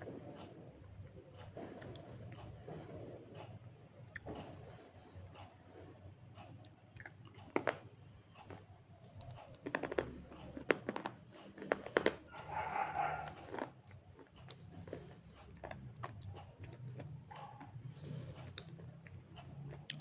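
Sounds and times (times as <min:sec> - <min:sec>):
soft chewing: 0:00.0 - 0:20.0.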